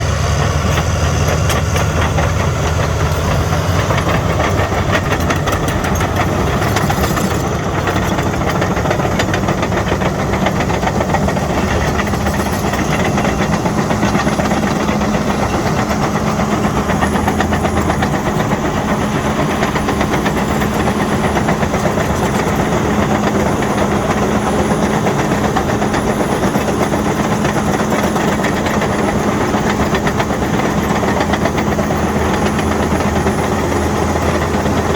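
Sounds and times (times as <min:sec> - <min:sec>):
bulldozer diesel engine: 0:00.0 - 0:34.9
steel tracks clanking: 0:00.0 - 0:34.9.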